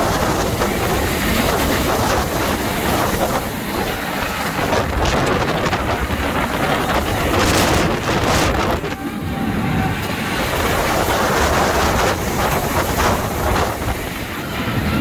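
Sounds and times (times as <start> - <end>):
roller coaster wheels rumbling on rail: 0.0 - 15.0
rushing air: 0.0 - 15.0.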